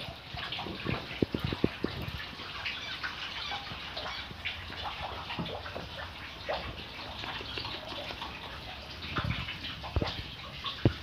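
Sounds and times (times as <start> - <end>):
running splashing water: 0.0 - 11.0.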